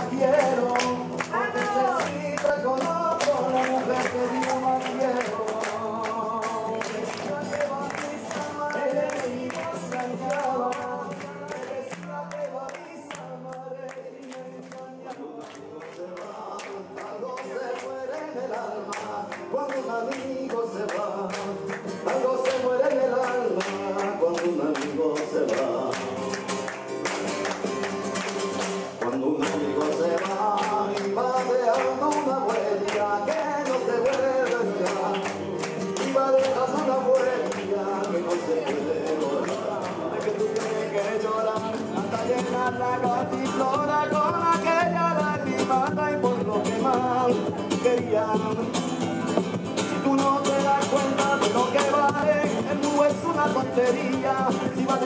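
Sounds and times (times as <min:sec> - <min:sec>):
man singing into microphone: 0:00.0 - 0:26.4, 0:28.9 - 0:55.0
sharp handclaps: 0:00.0 - 0:55.0.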